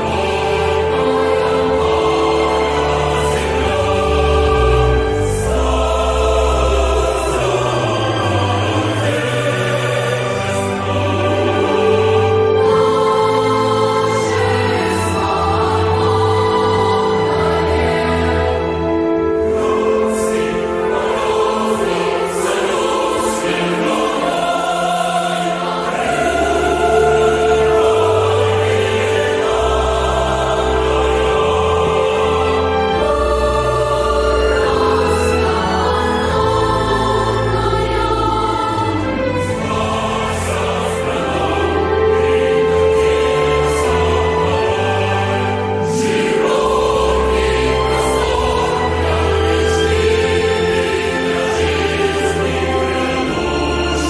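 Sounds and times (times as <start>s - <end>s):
choir holding long chords: 0.0s - 54.0s.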